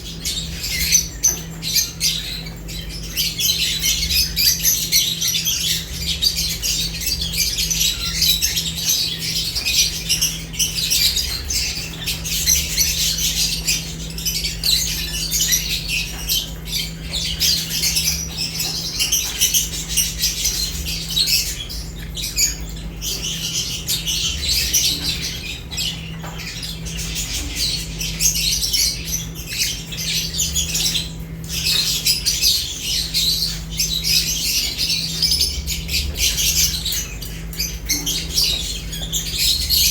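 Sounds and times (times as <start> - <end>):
lovebirds chattering and squawking: 0.0 - 39.9.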